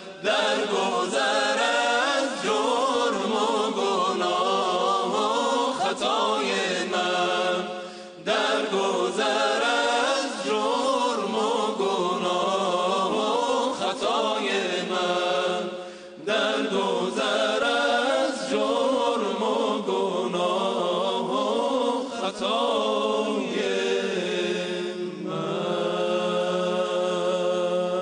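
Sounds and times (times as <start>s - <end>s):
men singing a devotional chant: 0.0s - 28.0s.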